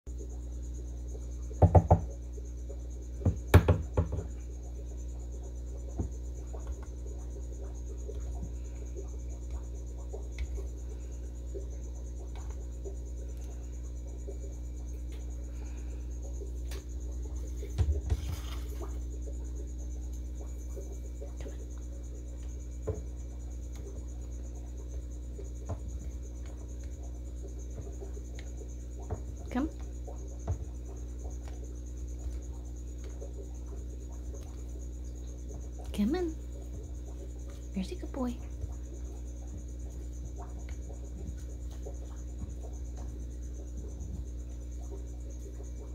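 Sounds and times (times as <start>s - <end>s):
cricket trill: 0.1s - 45.9s
steady low hum: 0.1s - 45.9s.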